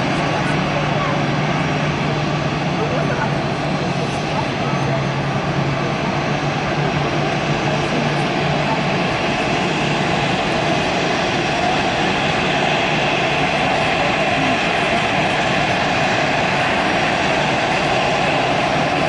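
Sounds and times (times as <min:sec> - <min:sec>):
jet engines at taxi power: 0:00.0 - 0:19.0.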